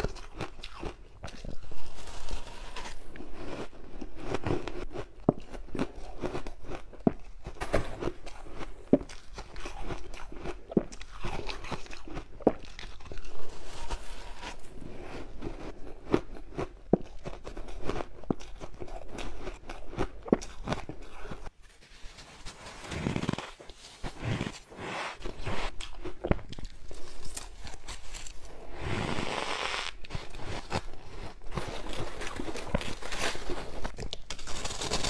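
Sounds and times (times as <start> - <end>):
crunching ice being chewed: 0.0 - 21.5, 25.2 - 35.0.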